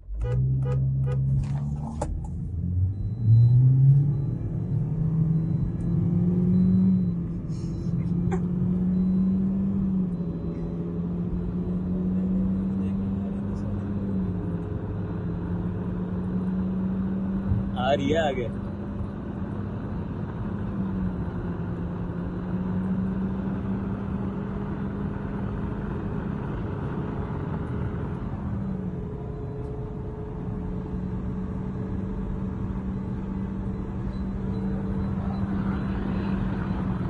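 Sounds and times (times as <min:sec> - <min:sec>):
car engine drone: 0:00.0 - 0:37.0.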